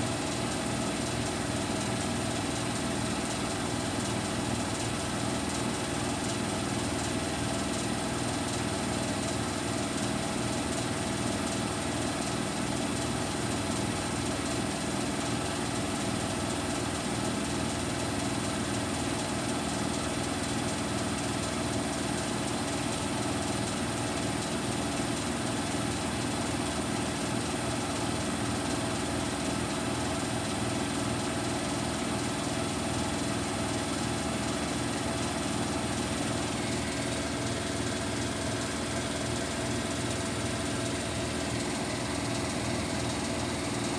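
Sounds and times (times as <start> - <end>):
washing machine hum: 0.0 - 43.9.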